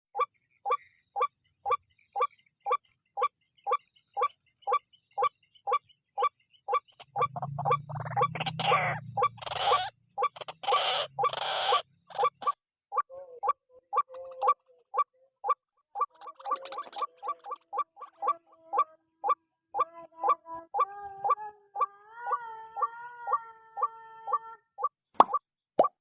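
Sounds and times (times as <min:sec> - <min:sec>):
waterhen calling: 0:00.2 - 0:22.4.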